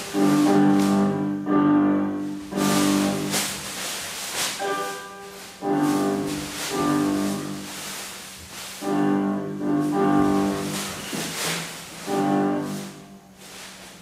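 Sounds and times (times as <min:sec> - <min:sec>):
orchestral chords: 0:00.0 - 0:03.8, 0:04.6 - 0:08.0, 0:08.8 - 0:13.3.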